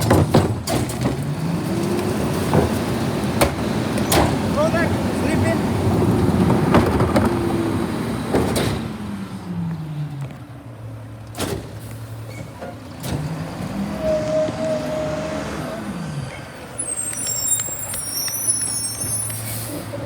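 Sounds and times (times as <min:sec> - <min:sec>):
garbage truck engine: 0:00.0 - 0:20.0.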